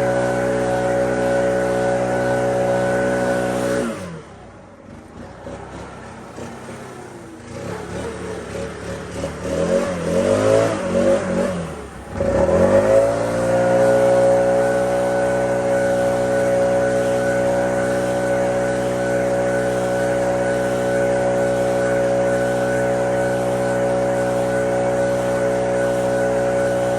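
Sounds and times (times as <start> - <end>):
lawn mower engine running: 0.0 - 26.9.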